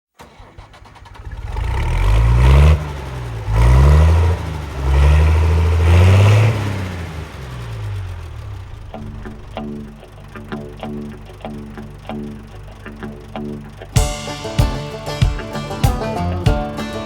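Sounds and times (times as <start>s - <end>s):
large engine revving: 0.2s - 14.0s.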